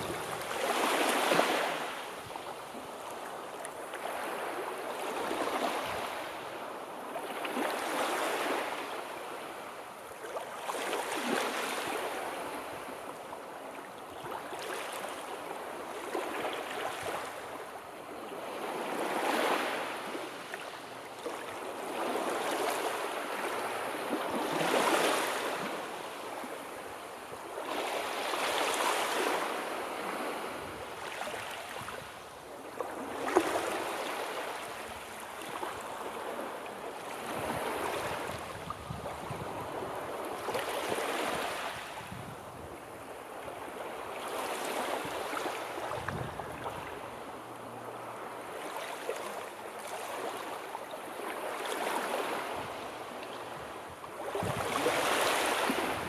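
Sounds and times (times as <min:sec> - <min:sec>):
sea waves washing in: 0:00.0 - 0:09.8, 0:18.5 - 0:56.0.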